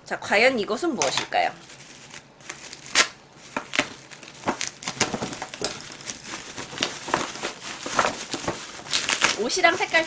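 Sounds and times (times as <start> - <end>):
gift wrapping rustling and crinkling: 1.6 - 10.0.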